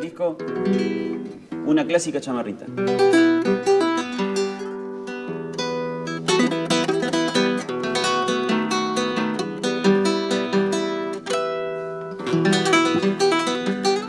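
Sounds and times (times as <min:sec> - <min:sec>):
acoustic guitar solo: 0:00.0 - 0:14.0.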